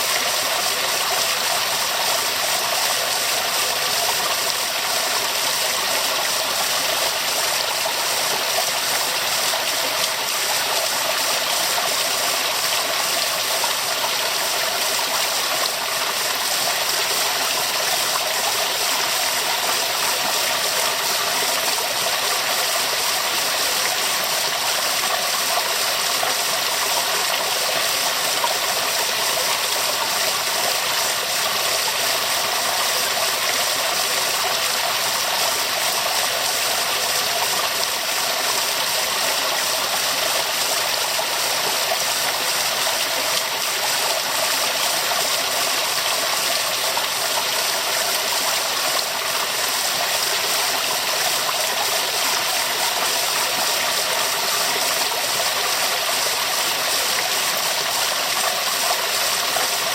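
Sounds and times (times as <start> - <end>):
waterfall pouring and splashing: 0.0 - 59.9.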